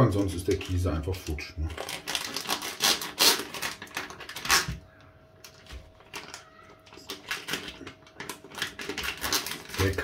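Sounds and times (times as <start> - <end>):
package clicks and rustles: 0.2 - 10.0
packaging crackling: 0.2 - 10.0.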